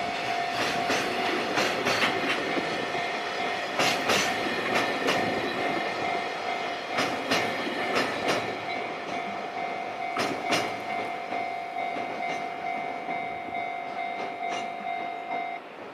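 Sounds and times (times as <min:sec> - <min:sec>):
level crossing warning signal: 0:00.0 - 0:15.9
wheels clicking over rail joints: 0:00.0 - 0:15.9.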